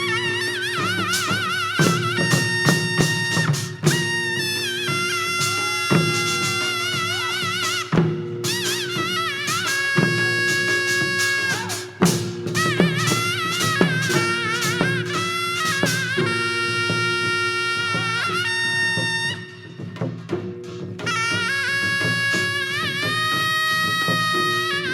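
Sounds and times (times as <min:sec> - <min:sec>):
reedy wind instrument melody: 0:00.0 - 0:20.4, 0:21.0 - 0:24.9
sharp drum strokes: 0:00.0 - 0:24.9.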